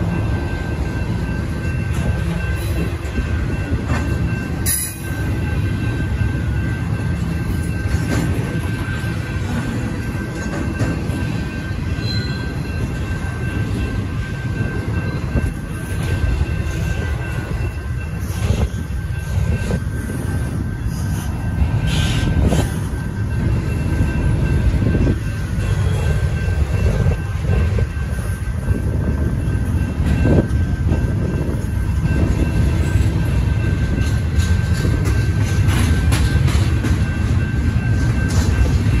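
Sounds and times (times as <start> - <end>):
crossing signal bells ringing: 0.0 - 39.0
train low rumble: 0.0 - 39.0
train wheels clacking on rail joints: 0.0 - 39.0.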